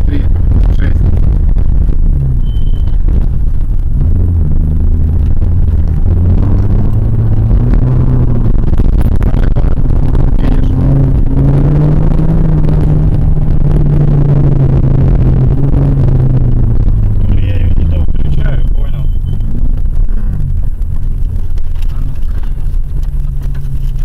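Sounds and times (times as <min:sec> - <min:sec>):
car engine running hard: 0:00.0 - 0:24.0
tyres rumbling on dirt track: 0:00.0 - 0:24.0.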